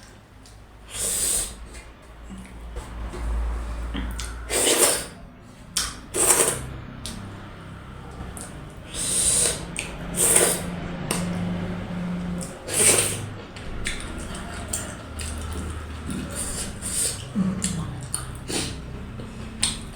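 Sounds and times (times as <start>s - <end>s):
slurping and smacking mouth noises: 0.9s - 5.2s, 5.8s - 7.3s, 8.1s - 11.6s, 12.3s - 19.9s.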